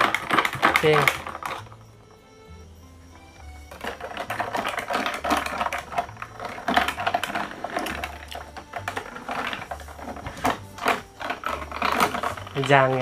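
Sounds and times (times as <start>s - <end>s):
ice and spoon clinking in glass: 0.0s - 13.0s.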